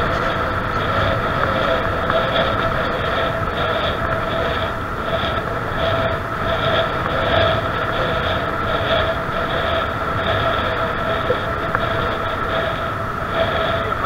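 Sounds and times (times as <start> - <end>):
bicycle tyre rumble on asphalt: 0.0 - 14.0
wind rushing over microphone: 0.0 - 14.0.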